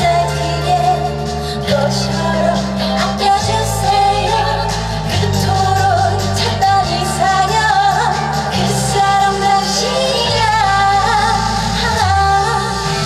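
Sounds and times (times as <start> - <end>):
backing track with steady bass: 0.0 - 13.0
woman singing upbeat song: 0.0 - 13.0.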